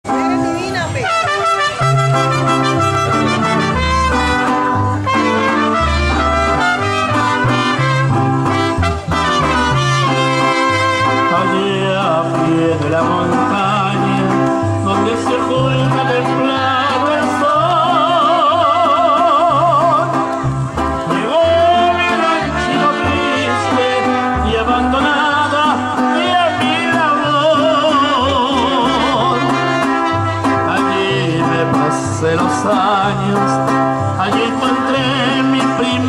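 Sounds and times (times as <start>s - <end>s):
bass line: 0.0s - 36.0s
brass playing melody with vibrato: 0.1s - 36.0s.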